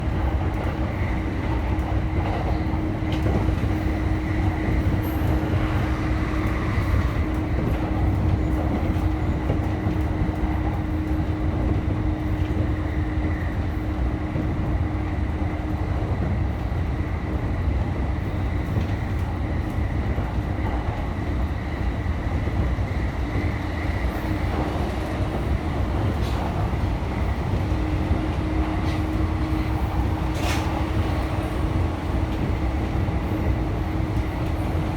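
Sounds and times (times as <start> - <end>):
train rumbling on rails: 0.0 - 34.9.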